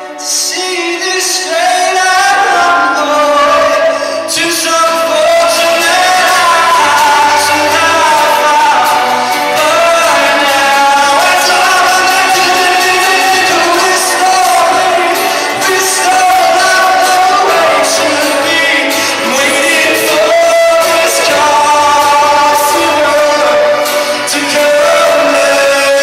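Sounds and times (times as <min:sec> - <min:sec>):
instrumental accompaniment: 0:00.0 - 0:26.0
man singing pop song: 0:00.0 - 0:26.0.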